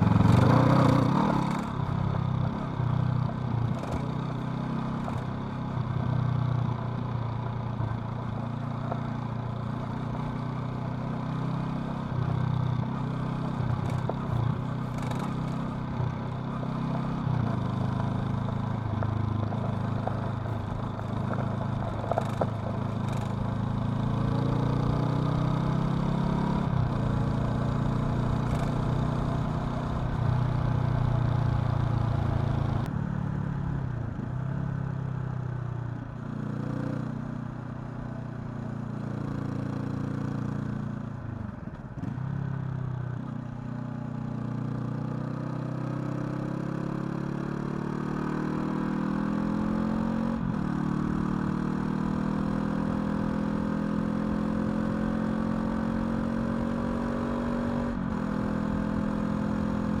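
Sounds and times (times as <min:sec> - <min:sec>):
motorcycle engine revving: 0:00.0 - 0:05.6, 0:08.2 - 0:32.9, 0:41.9 - 1:00.0.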